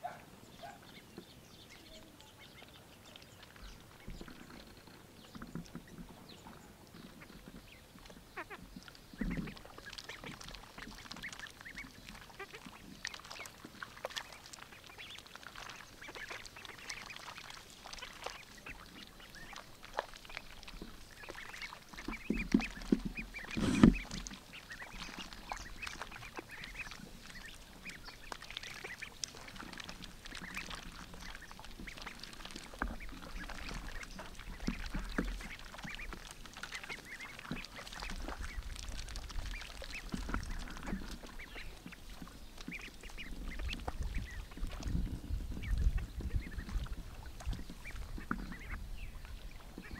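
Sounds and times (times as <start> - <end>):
ducks quacking: 5.5 - 41.9, 42.7 - 44.6, 45.6 - 49.1.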